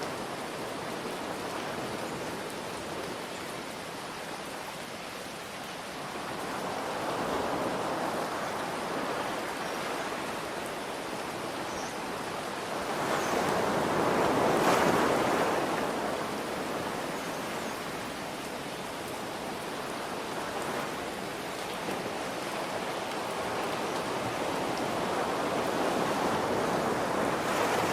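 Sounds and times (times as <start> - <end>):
ocean surf: 0.0 - 4.9, 5.6 - 27.9
rain: 0.0 - 27.9.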